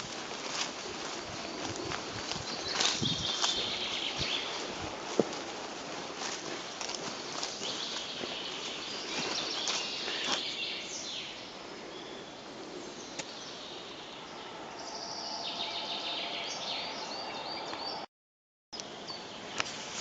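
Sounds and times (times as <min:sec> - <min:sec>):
forest birds singing: 0:00.0 - 0:18.1, 0:18.8 - 0:19.8.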